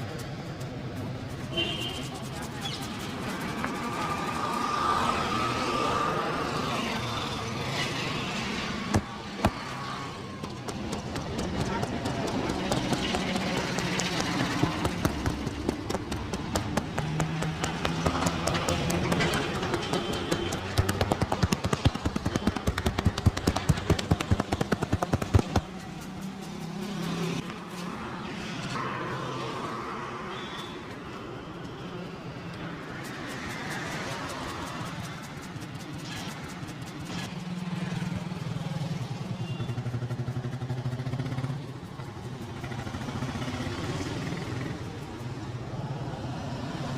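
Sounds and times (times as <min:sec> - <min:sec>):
street traffic noise: 0:00.0 - 0:46.9.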